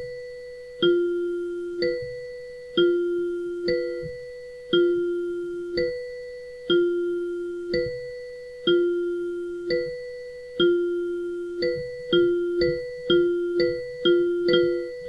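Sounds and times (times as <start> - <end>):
two-note ding-dong timer chime: 0.0 - 15.0.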